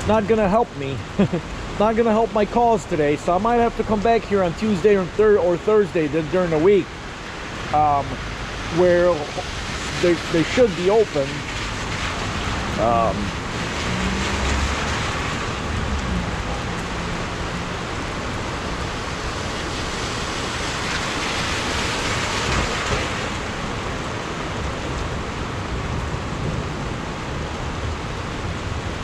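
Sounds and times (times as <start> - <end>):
rain falling: 0.0 - 29.0.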